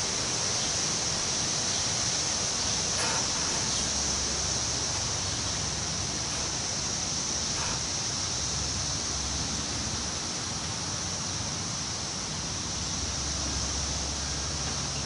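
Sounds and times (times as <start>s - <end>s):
wind blowing through trees: 0.0s - 15.0s.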